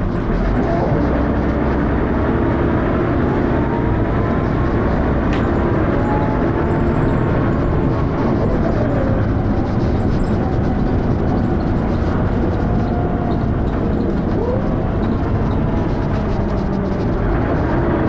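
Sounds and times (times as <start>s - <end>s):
bus engine running: 0.0s - 18.0s
road noise: 0.0s - 18.0s.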